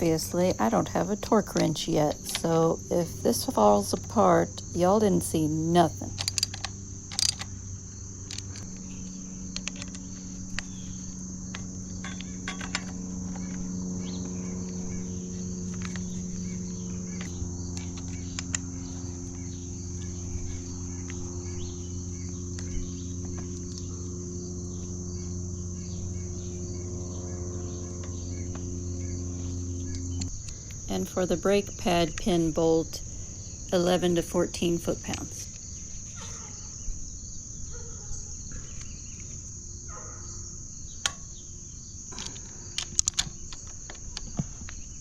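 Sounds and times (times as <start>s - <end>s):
crickets chirping: 0.0s - 45.0s
low droning tones: 0.0s - 45.0s.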